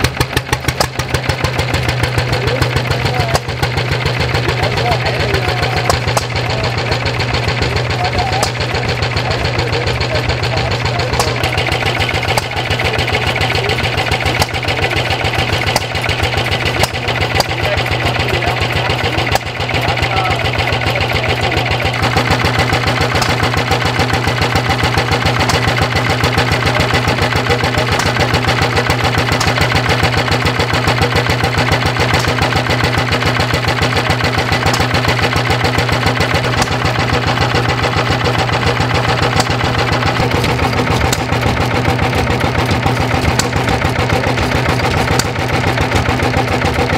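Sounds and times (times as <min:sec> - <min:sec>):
stationary engine running: 0:00.0 - 0:46.9.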